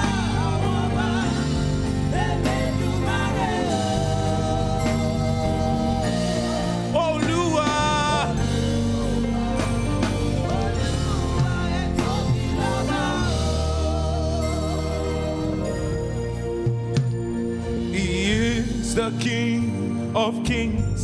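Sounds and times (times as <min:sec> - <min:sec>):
person singing wordless melody: 0:00.0 - 0:17.0, 0:17.6 - 0:21.0
held organ-like chords: 0:00.0 - 0:21.0.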